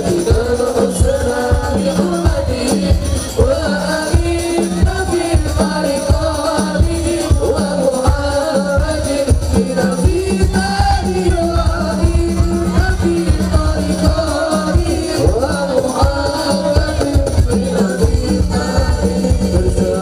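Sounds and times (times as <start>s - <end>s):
devotional group singing: 0.0s - 20.0s
frame drums beating: 0.0s - 20.0s.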